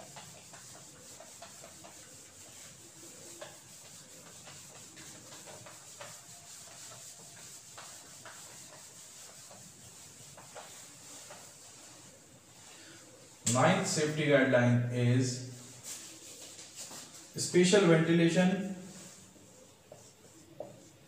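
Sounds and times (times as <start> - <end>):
eraser wiping whiteboard: 0.0 - 13.9, 15.6 - 17.8, 18.7 - 21.0.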